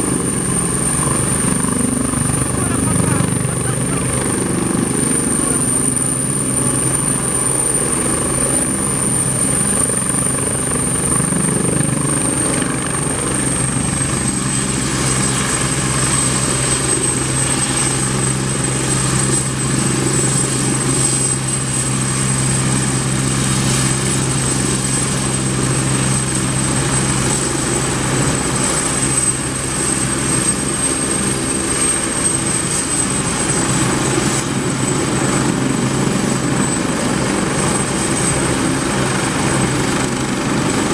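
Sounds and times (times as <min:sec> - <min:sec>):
helicopter rotors droning: 0:00.0 - 0:40.9
helicopter turbine whine: 0:00.0 - 0:40.9.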